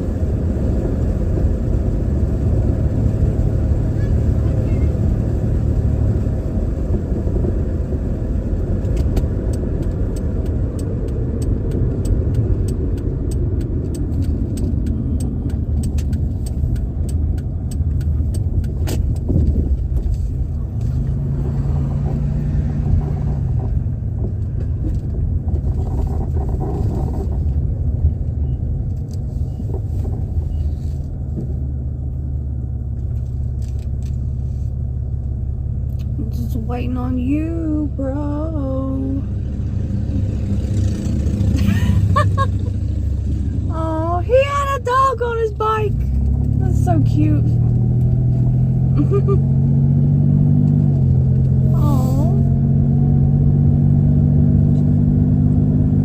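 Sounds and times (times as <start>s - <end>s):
car engine and road rumble: 0.0s - 56.0s
deep hum: 0.0s - 56.0s.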